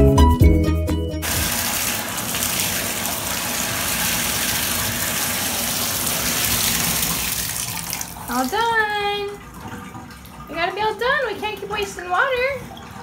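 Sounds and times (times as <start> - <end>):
water running into bathtub: 1.2 - 13.0.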